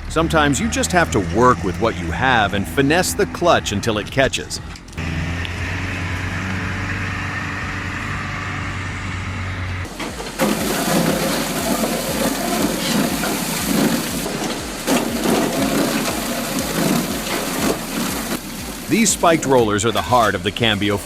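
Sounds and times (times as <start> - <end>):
heavy vehicle engine running: 0.0 - 21.0
log debarker rollers working logs: 0.0 - 21.0.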